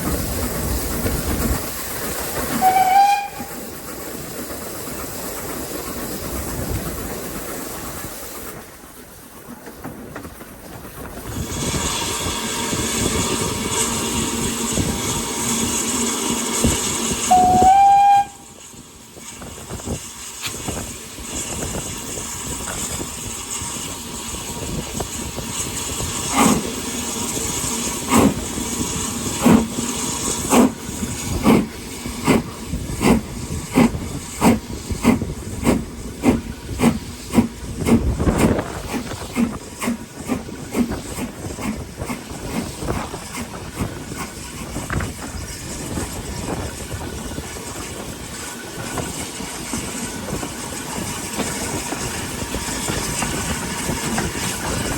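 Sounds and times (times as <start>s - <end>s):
steam hiss: 0.0s - 9.6s, 10.9s - 54.9s
steam locomotive exhaust chuffs: 0.0s - 54.9s.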